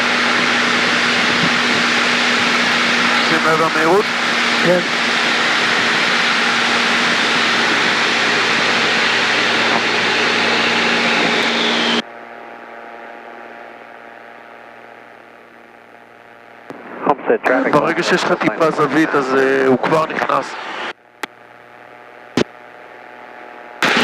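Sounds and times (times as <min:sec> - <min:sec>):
light aircraft engine and wind: 0:00.0 - 0:20.9.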